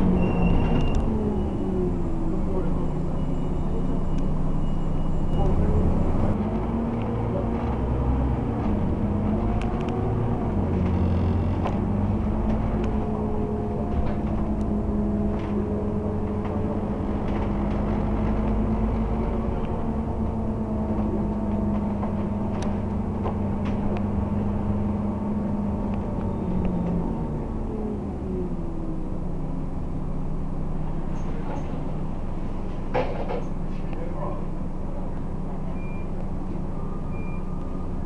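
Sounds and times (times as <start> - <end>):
bus engine droning: 0.0 - 38.0.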